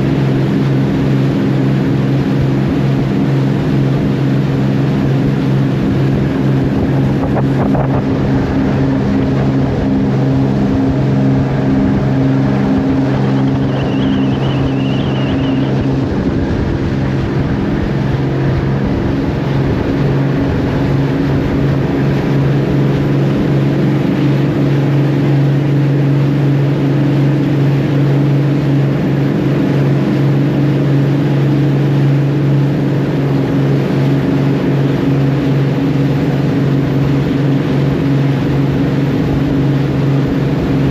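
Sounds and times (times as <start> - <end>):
boat engine humming: 0.0 - 40.9
water wash: 0.0 - 40.9.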